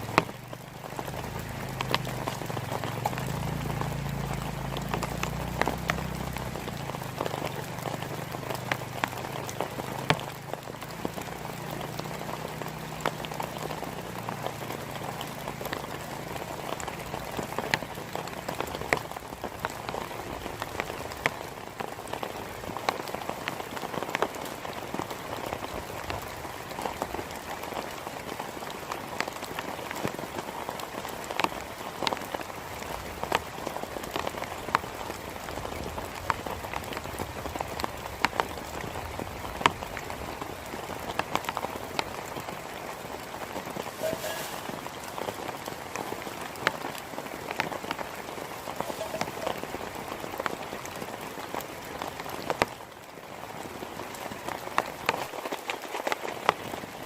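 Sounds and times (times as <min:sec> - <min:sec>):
heavy rain: 0:00.0 - 0:57.0
raindrops striking close by: 0:00.0 - 0:57.0.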